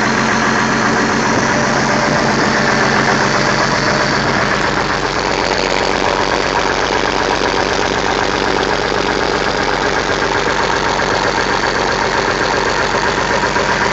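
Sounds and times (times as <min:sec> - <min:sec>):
engine idling with low pulsing: 0:00.0 - 0:13.9.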